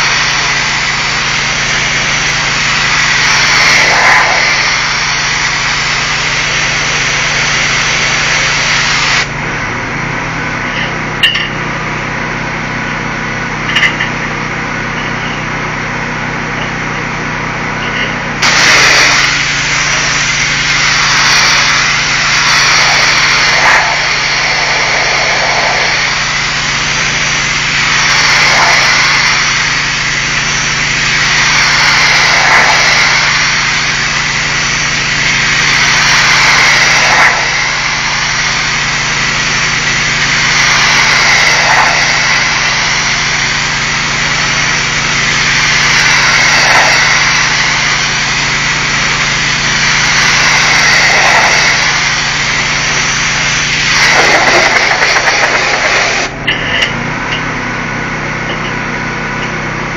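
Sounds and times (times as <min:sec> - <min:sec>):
pressure washer spray on brick: 0:00.0 - 0:09.4, 0:12.6 - 0:57.5
engine hum: 0:00.0 - 0:59.9.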